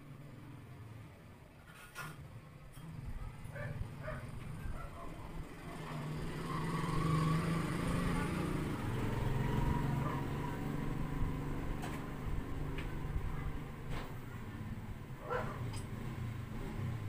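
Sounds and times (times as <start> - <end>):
vehicle engine passing by: 3.0 - 17.0.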